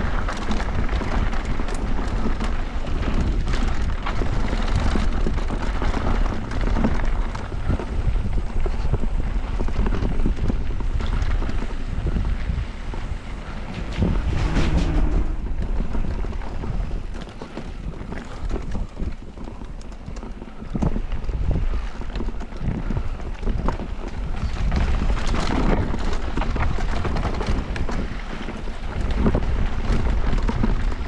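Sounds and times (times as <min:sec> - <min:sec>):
bike rattling and knocking: 0:00.0 - 0:31.0
tyres rumbling over dirt: 0:00.0 - 0:31.0
wind buffeting microphone: 0:00.0 - 0:31.0.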